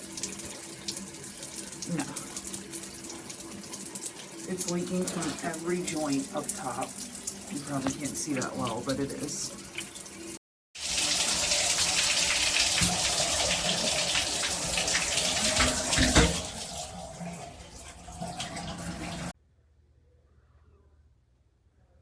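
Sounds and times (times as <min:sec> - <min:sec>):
shower water running and splashing: 0:00.0 - 0:19.4.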